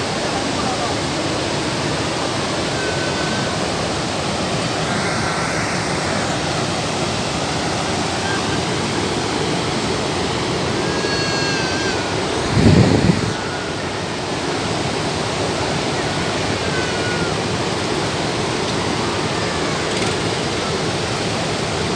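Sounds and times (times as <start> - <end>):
waterfall roaring: 0.0 - 21.9.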